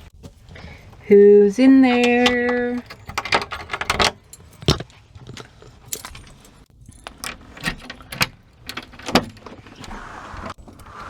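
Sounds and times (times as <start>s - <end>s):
keys jangling: 0.6s - 9.8s.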